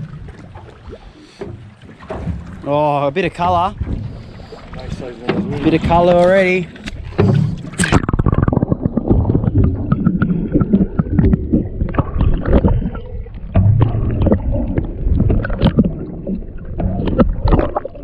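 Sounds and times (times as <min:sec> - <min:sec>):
water sloshing around hull: 0:00.0 - 0:18.0.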